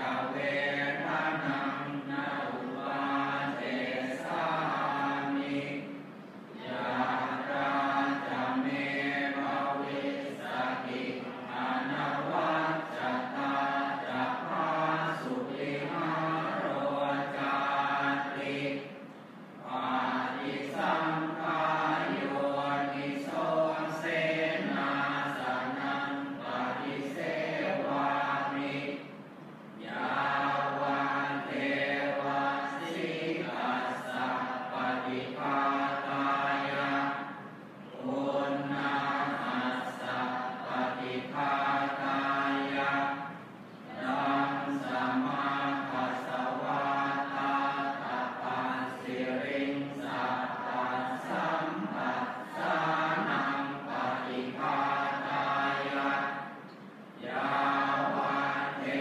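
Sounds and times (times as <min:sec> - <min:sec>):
congregation chanting in unison: 0:00.0 - 0:59.0.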